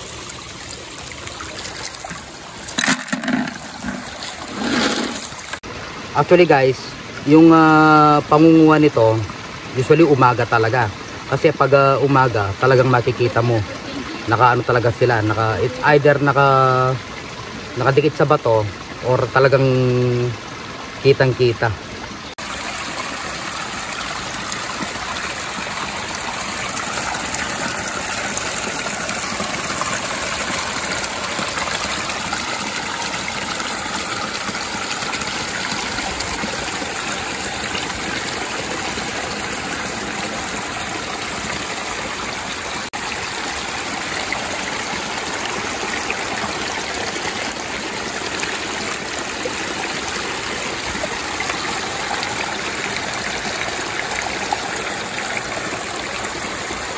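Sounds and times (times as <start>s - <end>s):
stream flowing: 0.0s - 56.9s.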